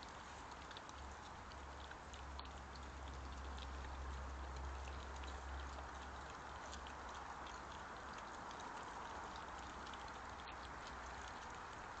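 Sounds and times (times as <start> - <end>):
badgers chewing and foraging: 0.0 - 12.0
faint hiss with low hum: 0.0 - 12.0.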